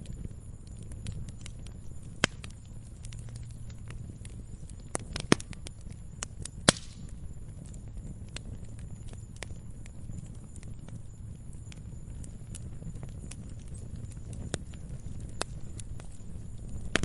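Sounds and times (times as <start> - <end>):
fire popping and snapping: 0.0 - 17.0
log fire crackling: 0.0 - 17.0.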